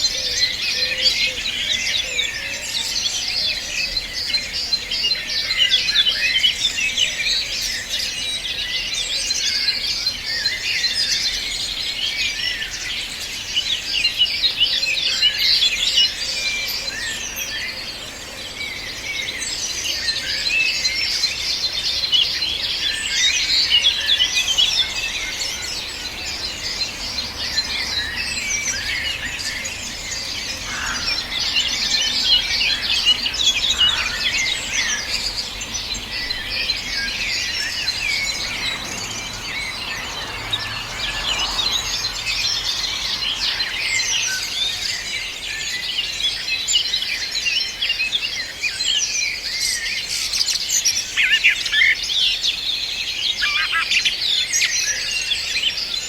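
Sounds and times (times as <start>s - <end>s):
chorus of songbirds singing: 0.0s - 56.0s.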